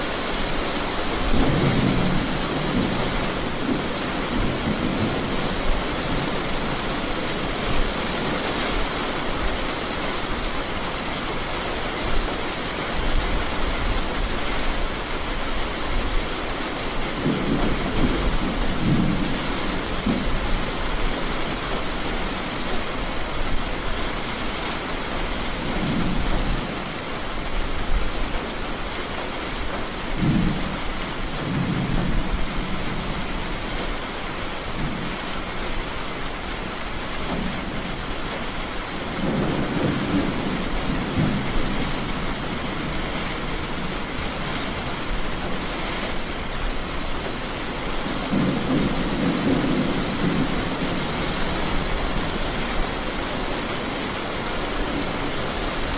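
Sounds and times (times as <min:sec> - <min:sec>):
distant thunder rumbling: 0:00.0 - 0:09.6, 0:16.0 - 0:28.7, 0:29.6 - 0:55.9
steady rain falling: 0:00.0 - 0:55.9.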